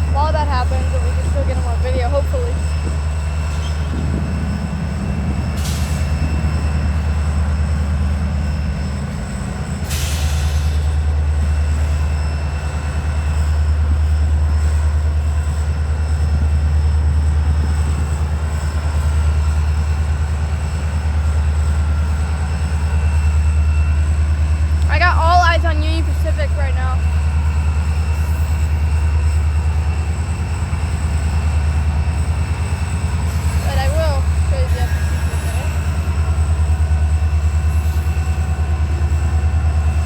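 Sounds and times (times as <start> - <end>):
locomotive engine rumble: 0.0 - 40.0.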